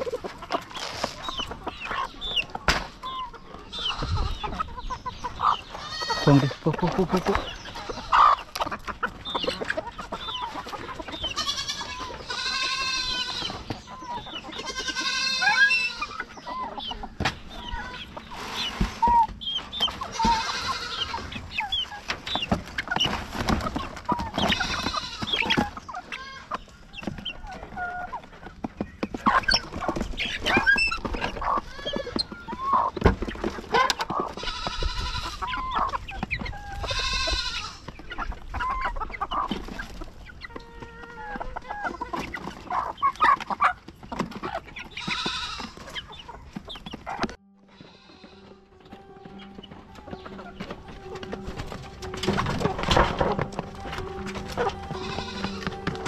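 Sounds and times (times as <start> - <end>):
chickens clucking and squawking: 0.0 - 56.0.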